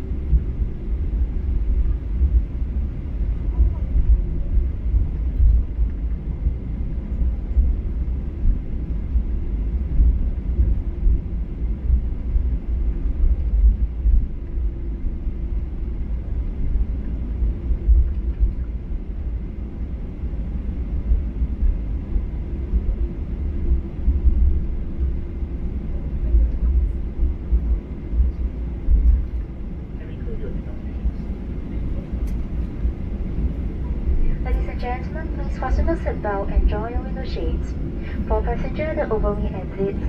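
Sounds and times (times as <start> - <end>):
airplane cabin rumble: 0.0 - 40.0
faint steady hum: 0.0 - 40.0.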